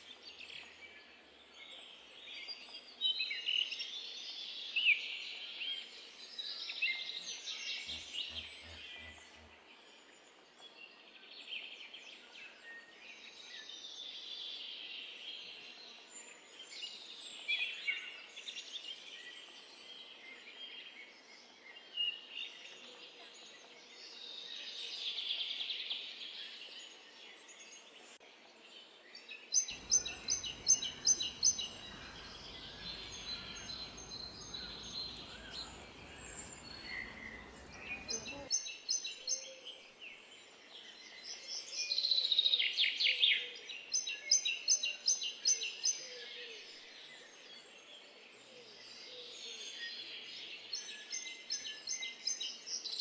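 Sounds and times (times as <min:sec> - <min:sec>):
small birds singing and chirping: 0:00.0 - 0:53.0.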